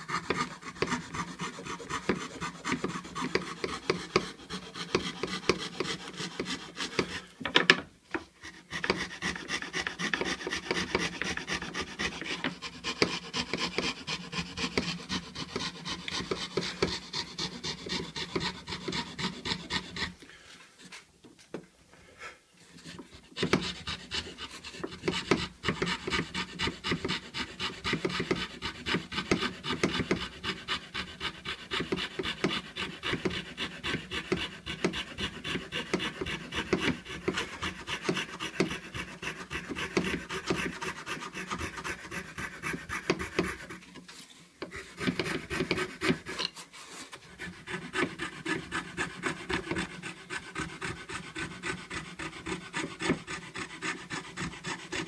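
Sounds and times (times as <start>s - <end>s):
fretsaw cutting wood: 0.0s - 7.7s, 8.4s - 20.2s, 22.8s - 43.9s, 44.6s - 46.6s, 47.2s - 55.0s.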